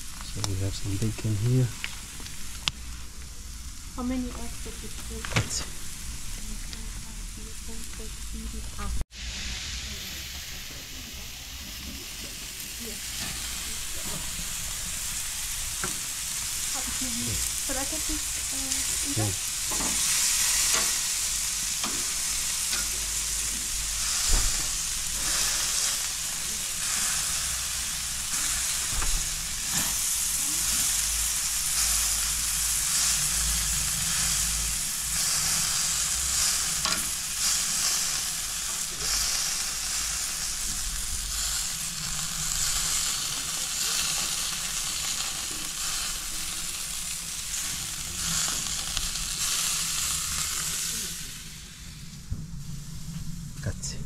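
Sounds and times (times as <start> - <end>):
burger patties sizzling on grill: 0.0 - 54.0.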